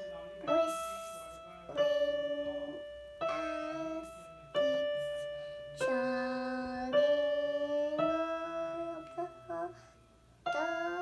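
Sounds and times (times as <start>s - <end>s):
keyboard playing slow chords: 0.0s - 11.0s.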